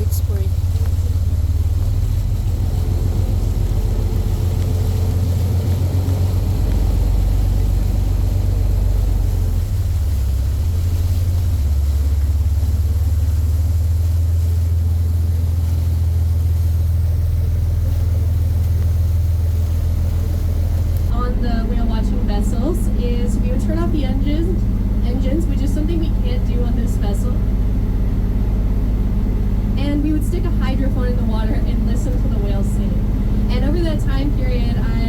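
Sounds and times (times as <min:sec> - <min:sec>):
boat engines droning: 0:00.0 - 0:35.0.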